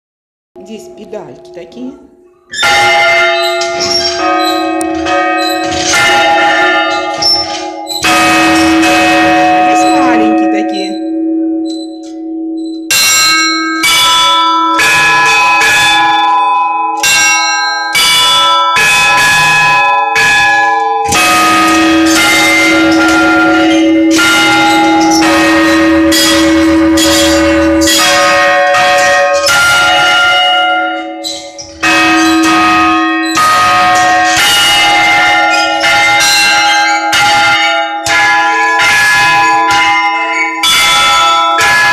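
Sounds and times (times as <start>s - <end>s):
deep bell ringing: 0.6s - 41.9s
small church bells ringing rhythmically: 0.6s - 41.9s.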